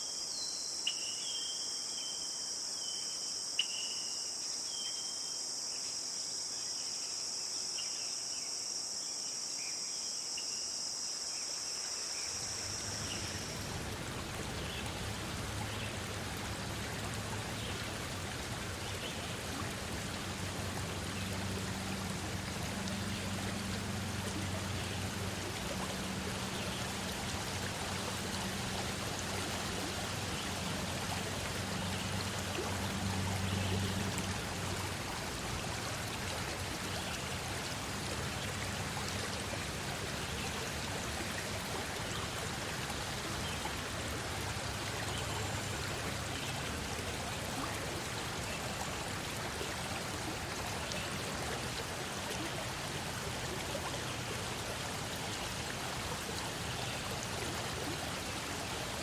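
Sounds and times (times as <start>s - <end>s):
forest stream rushing: 0.0s - 59.0s.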